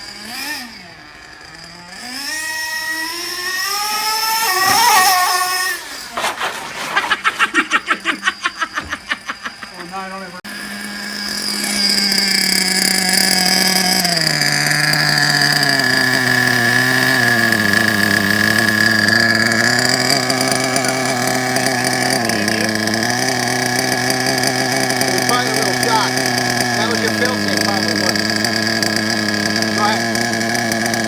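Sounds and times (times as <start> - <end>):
nitro engine running high-pitched: 0.0 - 5.9, 7.8 - 31.0.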